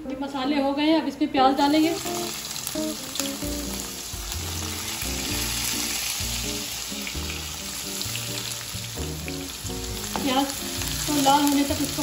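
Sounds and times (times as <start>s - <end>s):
background music: 0.0s - 12.0s
onion sizzling in oil: 1.6s - 12.0s.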